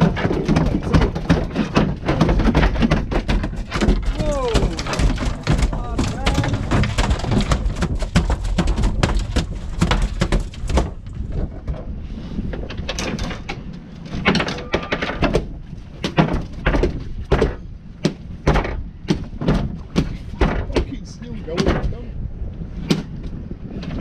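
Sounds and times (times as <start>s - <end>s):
fish thrashing on boat deck: 0.0s - 22.0s
low rumble: 3.5s - 24.0s.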